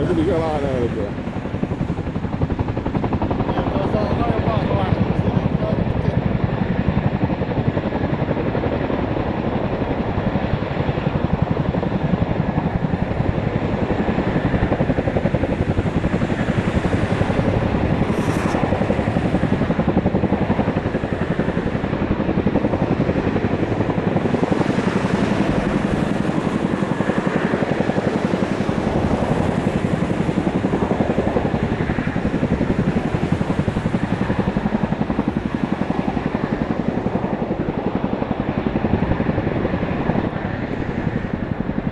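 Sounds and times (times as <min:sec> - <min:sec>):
helicopter rotors beating: 0:00.0 - 0:41.9
turbine engine whine: 0:00.0 - 0:41.9.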